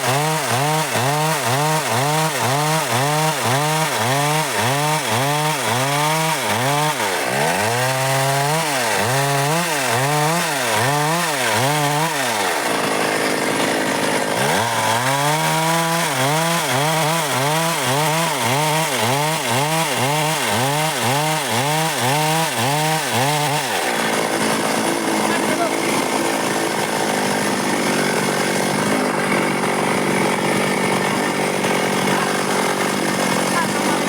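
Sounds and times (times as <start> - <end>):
chainsaw cutting dry wood: 0.0 - 34.0.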